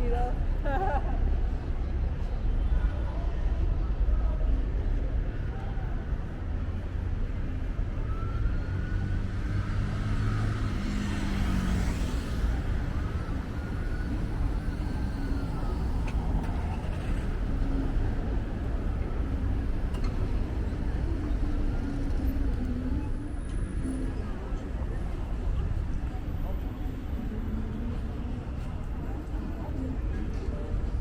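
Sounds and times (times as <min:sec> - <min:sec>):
city road traffic: 0:00.0 - 0:31.0.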